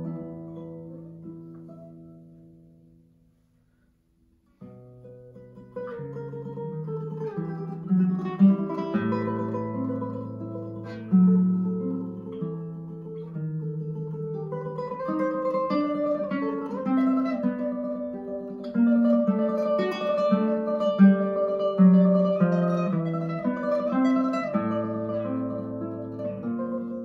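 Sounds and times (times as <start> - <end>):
classical guitar melody: 0.0 - 27.0.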